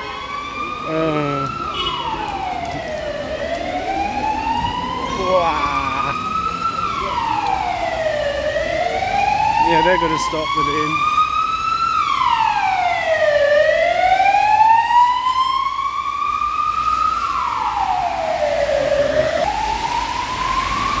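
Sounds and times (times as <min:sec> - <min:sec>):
emergency siren wailing: 0:00.0 - 0:21.0.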